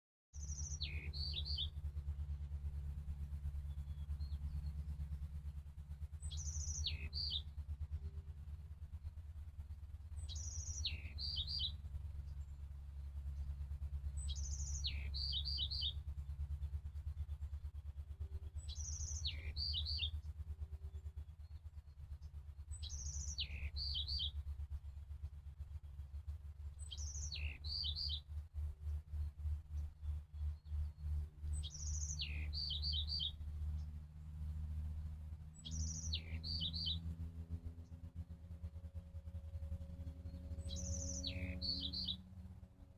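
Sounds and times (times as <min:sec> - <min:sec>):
songbird singing: 0:00.4 - 0:42.9
steady low rumble: 0:00.4 - 0:42.9.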